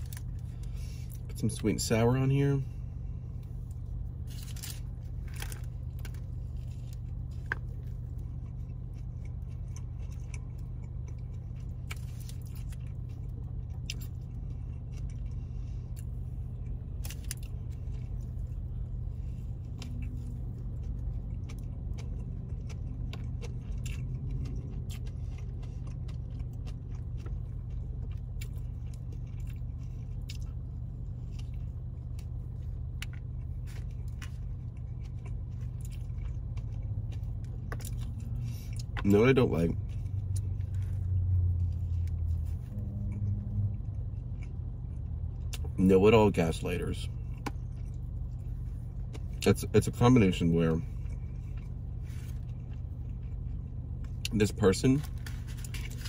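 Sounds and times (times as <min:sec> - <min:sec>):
biting and chewing burger: 0:00.0 - 0:56.0
steady low hum: 0:00.0 - 0:56.0.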